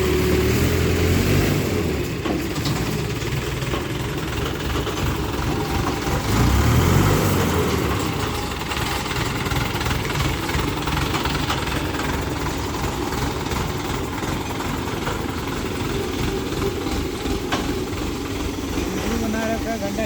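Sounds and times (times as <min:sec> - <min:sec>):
heavy vehicle engine idling: 0:00.0 - 0:20.0.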